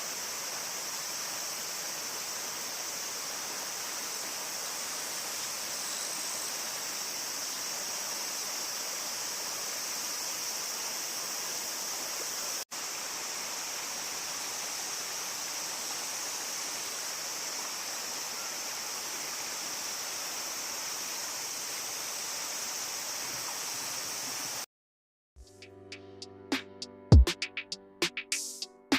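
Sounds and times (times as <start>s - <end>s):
high-pitched hiss: 0.0s - 24.7s, 28.2s - 28.7s.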